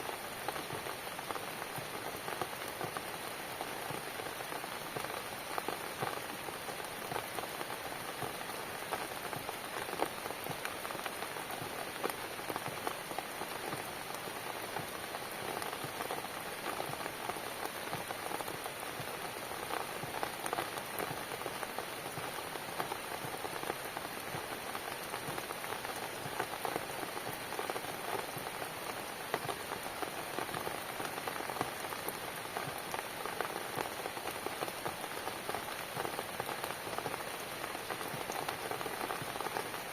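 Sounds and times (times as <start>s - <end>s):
steady rainfall: 0.0s - 39.9s
raindrops ticking: 0.1s - 39.9s.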